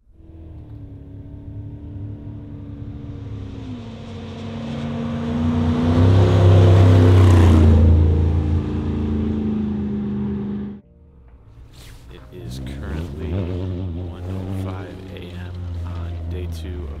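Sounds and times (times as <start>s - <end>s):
race car engine passing by: 0.1s - 10.8s, 12.1s - 17.0s.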